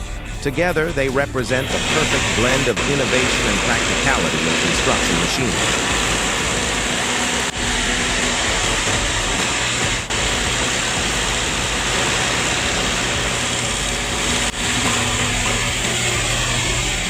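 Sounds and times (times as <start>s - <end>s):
heavy machinery diesel engine: 0.0s - 17.0s.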